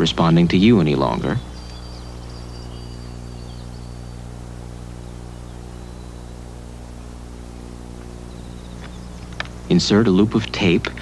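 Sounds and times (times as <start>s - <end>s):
faint songbird whistling: 0.0s - 9.7s
low electrical hum: 0.0s - 11.0s.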